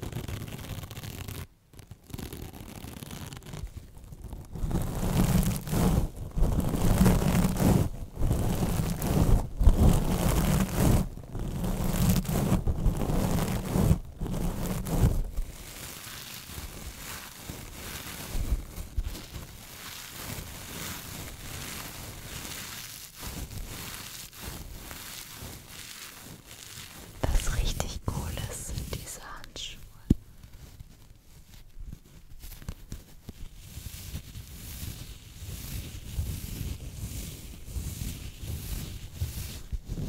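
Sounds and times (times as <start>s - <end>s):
metal scrubber rubbing on microphone: 4.5s - 40.0s.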